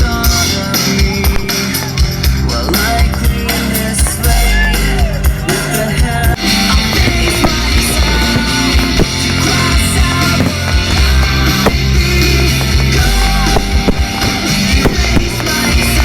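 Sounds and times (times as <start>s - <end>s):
bass guitar: 0.0s - 16.0s
drums: 0.0s - 16.0s.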